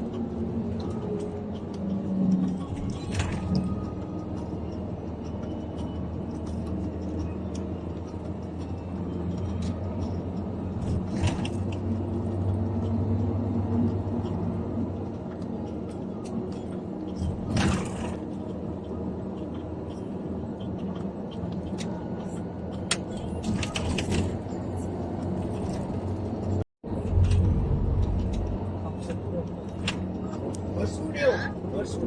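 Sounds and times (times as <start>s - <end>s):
vehicle rumble in motion: 0.0s - 32.0s.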